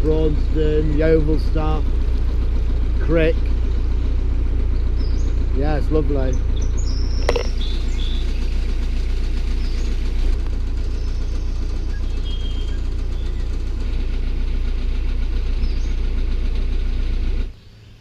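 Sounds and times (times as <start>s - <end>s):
diesel engine knocking: 0.0s - 17.6s.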